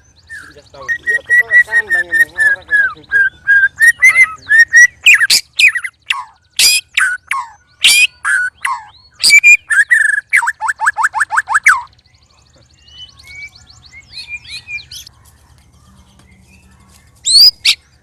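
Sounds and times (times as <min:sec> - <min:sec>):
songbirds singing and squawking: 0:00.0 - 0:18.0.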